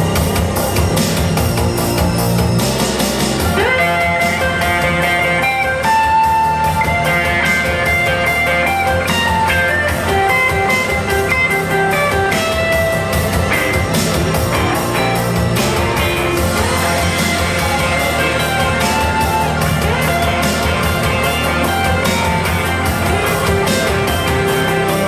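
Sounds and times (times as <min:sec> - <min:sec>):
electric guitar lead: 0:00.0 - 0:25.0
steady band beat: 0:00.0 - 0:25.0.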